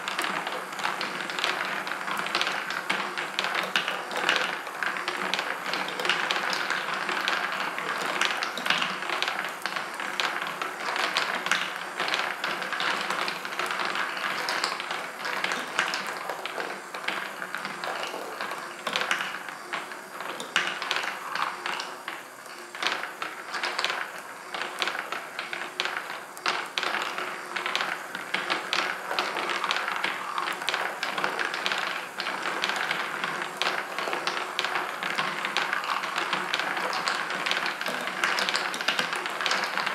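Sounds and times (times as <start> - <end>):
balls rolling along tracks: 0.0 - 39.9
metal balls clicking on rails: 0.1 - 39.9.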